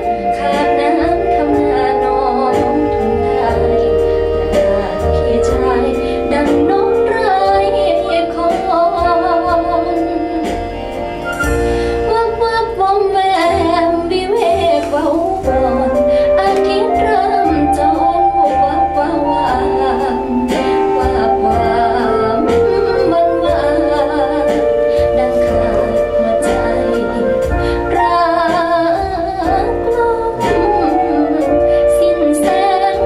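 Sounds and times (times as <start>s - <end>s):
instrumental backing with bass: 0.0s - 33.0s
woman singing ballad: 0.0s - 33.0s.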